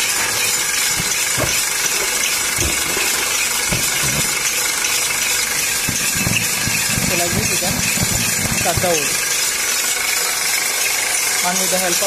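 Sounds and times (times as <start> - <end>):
machine shaft whirring: 0.0 - 12.0.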